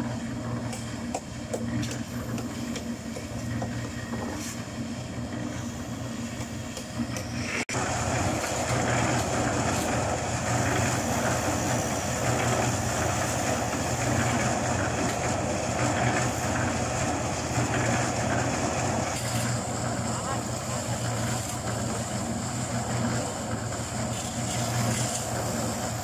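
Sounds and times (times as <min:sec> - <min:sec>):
concrete mixer churning: 0:00.0 - 0:26.0.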